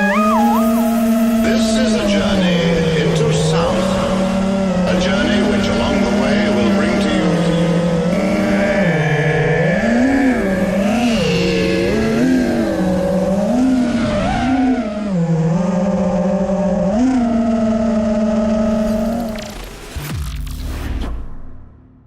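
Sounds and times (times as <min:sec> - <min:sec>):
quadcopter motors buzzing: 0:00.0 - 0:19.5.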